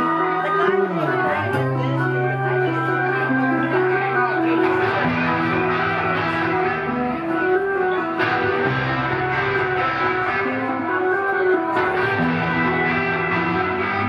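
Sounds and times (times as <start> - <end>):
bass line: 0.0 - 14.0
electric guitar: 0.0 - 14.0.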